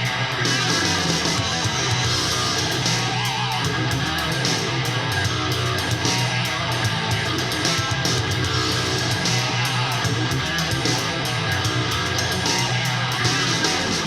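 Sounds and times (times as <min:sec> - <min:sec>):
guitar rock music through speaker: 0:00.0 - 0:14.0.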